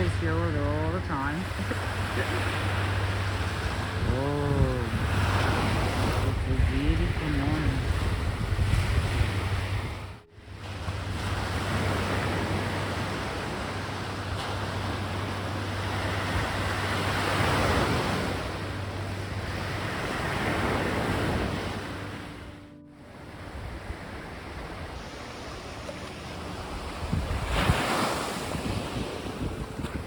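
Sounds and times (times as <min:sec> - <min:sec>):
wind on microphone: 0:00.0 - 0:18.7, 0:23.4 - 0:30.0
sea waves breaking on beach: 0:00.0 - 0:30.0.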